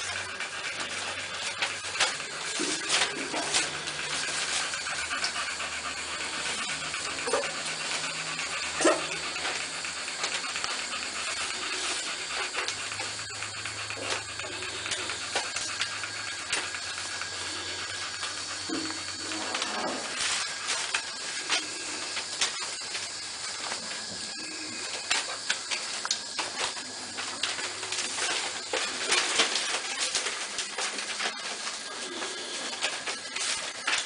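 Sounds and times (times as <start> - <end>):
newspaper rustling and crinkling: 0.0 - 34.0
steady hiss: 0.0 - 34.0.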